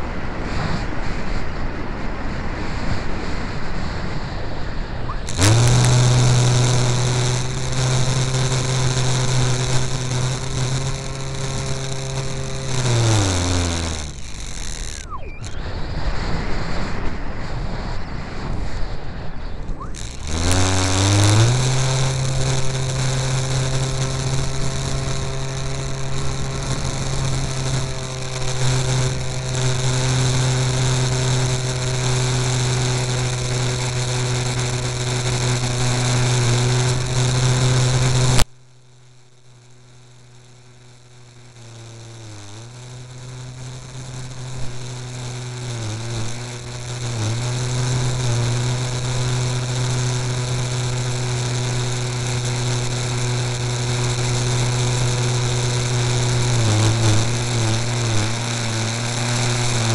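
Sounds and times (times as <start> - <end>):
model airplane motor droning: 0.0 - 59.9.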